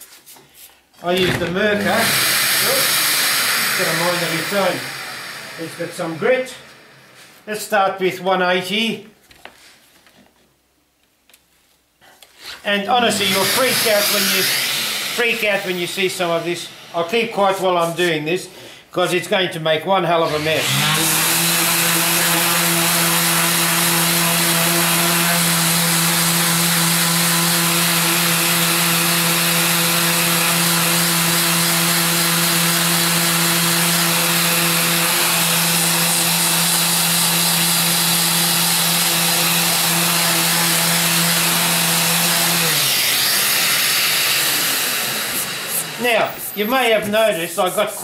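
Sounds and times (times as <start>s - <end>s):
orbital sander running: 1.2s - 7.2s, 12.9s - 18.2s, 20.2s - 47.9s.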